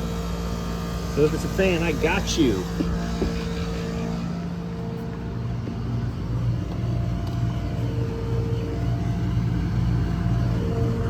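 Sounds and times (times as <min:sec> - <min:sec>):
air conditioning unit humming: 0:00.0 - 0:11.0
low pulsing rumble: 0:00.0 - 0:11.0.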